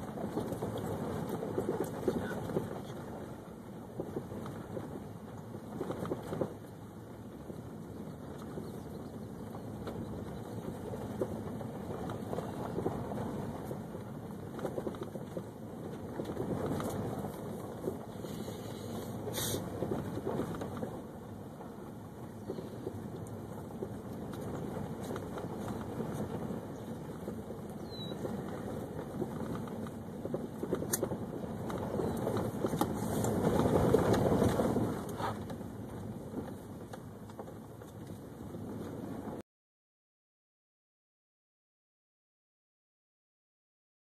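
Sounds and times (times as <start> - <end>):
gravel crackling under tyres: 0.0 - 39.4
tyre and road noise: 0.0 - 39.4.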